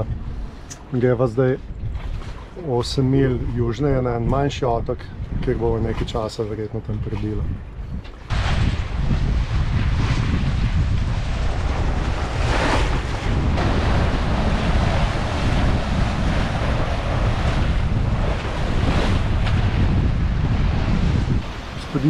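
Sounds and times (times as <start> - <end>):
water washing along hull: 0.0 - 22.0
wind buffeting microphone: 0.0 - 22.0.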